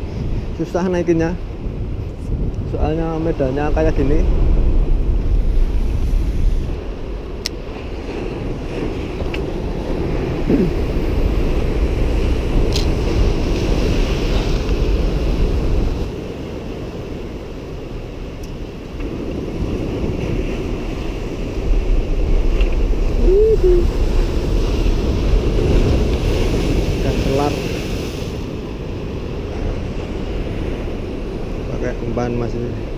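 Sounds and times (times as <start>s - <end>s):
wind rumbling on microphone: 0.0s - 32.9s
sea surf breaking on concrete: 3.1s - 32.9s.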